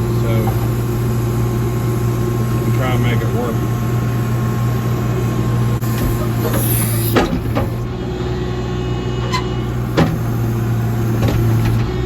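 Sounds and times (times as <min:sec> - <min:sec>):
backhoe diesel engine running: 0:00.0 - 0:12.0.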